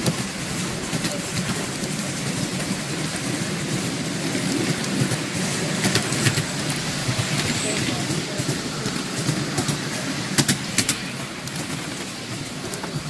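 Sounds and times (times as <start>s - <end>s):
miniature train rumbling and rattling: 0.0s - 13.0s.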